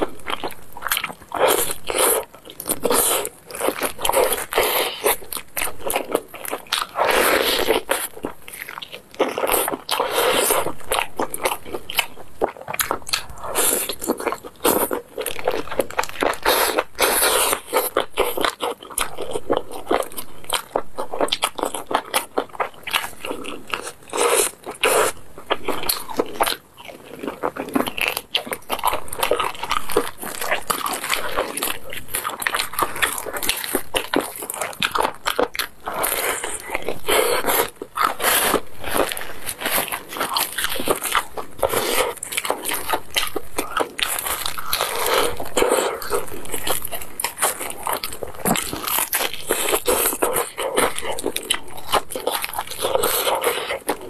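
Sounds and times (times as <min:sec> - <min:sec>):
fried chicken crust crunching: 0:00.0 - 0:54.0.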